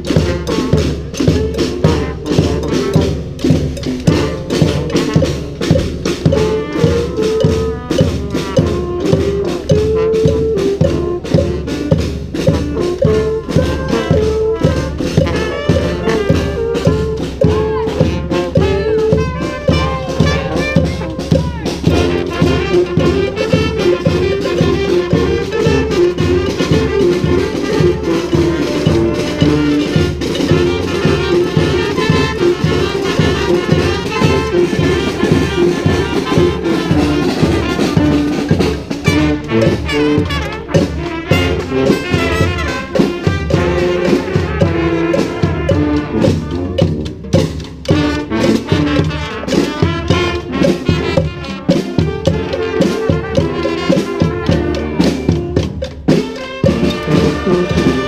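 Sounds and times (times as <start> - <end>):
brass band playing cumbia: 0.0 - 58.0
drums and shakers beat: 0.0 - 58.0.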